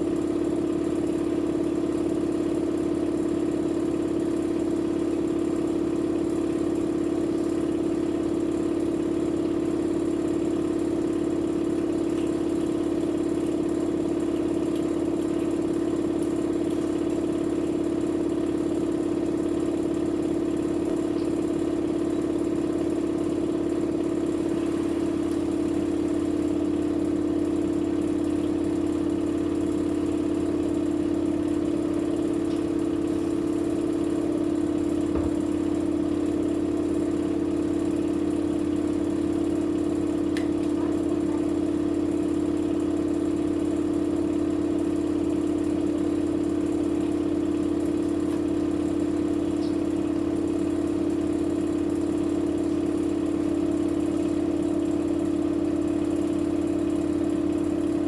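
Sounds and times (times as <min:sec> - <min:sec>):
washing machine spin cycle hum: 0:00.0 - 0:58.0.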